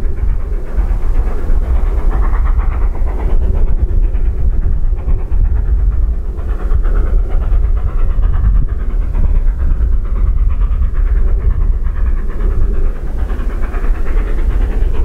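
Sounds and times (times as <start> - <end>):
heavy low rumble: 0.0 - 15.0
steam locomotive exhaust beats: 0.0 - 15.0.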